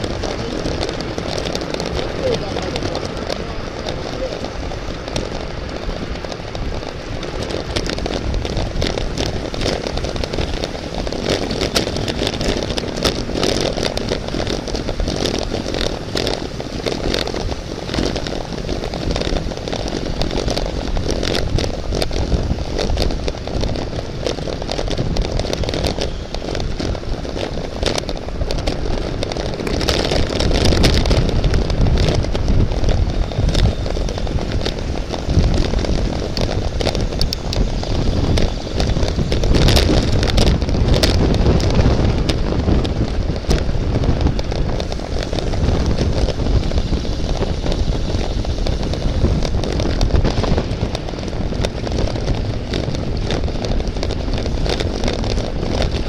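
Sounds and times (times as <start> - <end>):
crackling: 0.0 - 56.0
road rumble: 0.0 - 56.0
wind buffeting microphone: 0.0 - 56.0.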